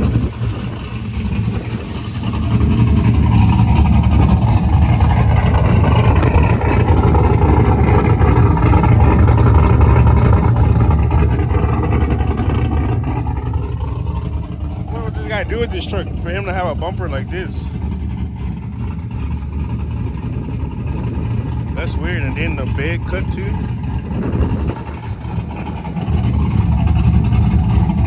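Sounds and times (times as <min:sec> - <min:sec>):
truck engine revving: 0:00.0 - 0:28.0
wind rumbling on microphone: 0:00.0 - 0:28.0.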